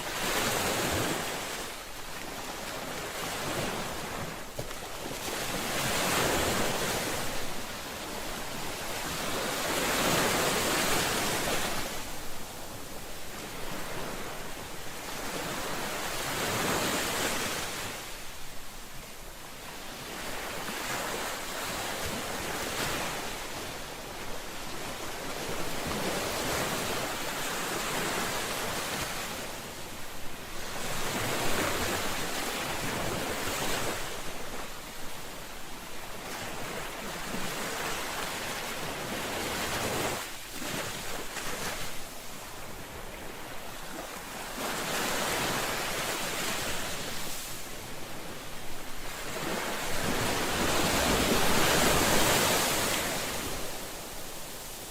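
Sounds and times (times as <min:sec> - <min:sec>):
ocean waves breaking: 0:00.0 - 0:18.2, 0:19.7 - 0:54.9.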